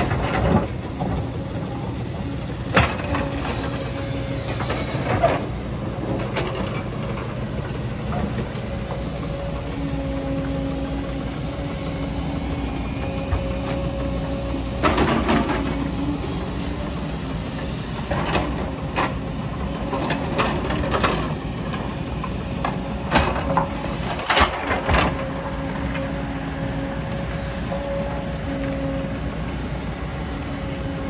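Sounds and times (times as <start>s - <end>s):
excavator diesel engine humming: 0.0s - 31.0s.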